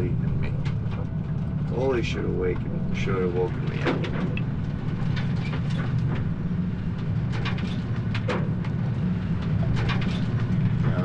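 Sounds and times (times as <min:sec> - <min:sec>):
boat engine drone: 0:00.0 - 0:11.0
rattles and knocks: 0:00.0 - 0:11.0.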